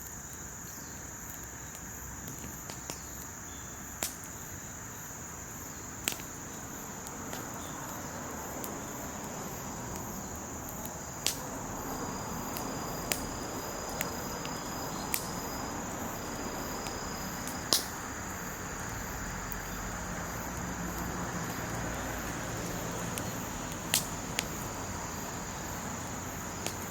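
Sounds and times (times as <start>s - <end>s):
burning wood popping: 0.0s - 26.9s
insects chirring: 0.0s - 26.9s
wood fire crackling: 0.0s - 26.9s.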